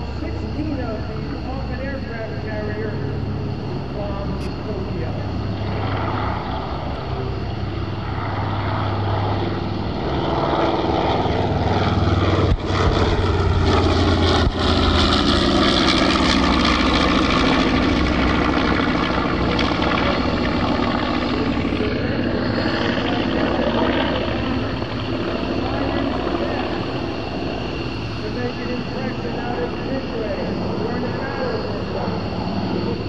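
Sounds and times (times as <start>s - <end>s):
propeller plane flyby: 0.0s - 33.0s.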